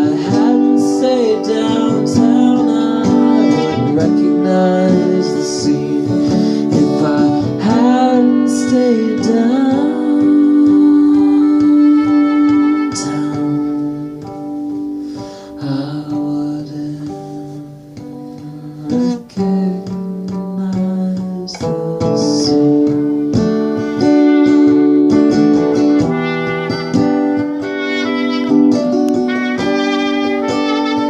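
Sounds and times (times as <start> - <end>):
guitar strumming chords: 0.0 - 31.0.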